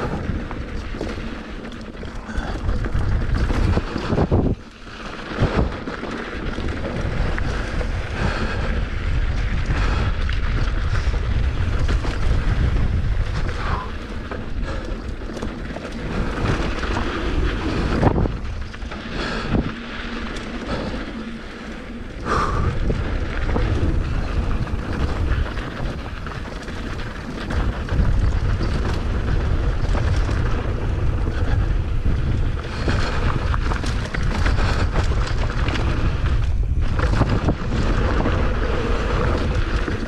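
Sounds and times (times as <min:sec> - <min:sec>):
bike rattling: 0:00.0 - 0:40.0
wind buffeting microphone: 0:00.0 - 0:40.0.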